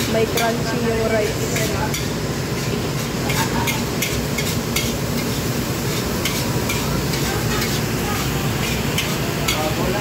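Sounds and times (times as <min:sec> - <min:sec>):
ladle scraping and clanking on wok: 0:00.0 - 0:10.0
rice sizzling: 0:00.0 - 0:10.0.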